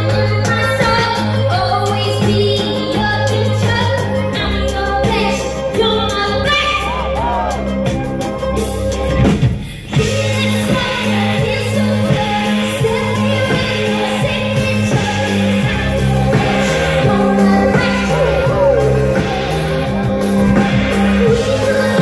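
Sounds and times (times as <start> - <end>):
music with singing over beat: 0.0 - 22.0.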